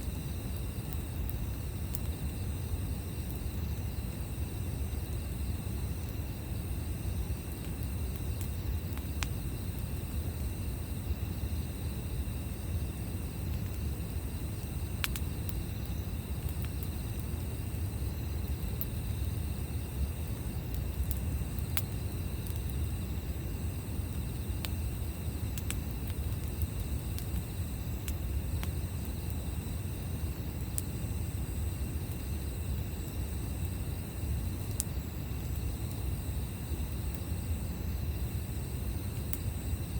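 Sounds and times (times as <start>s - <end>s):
high insect trill: 0.0s - 39.9s
wood crackling and popping in fire: 0.0s - 39.9s.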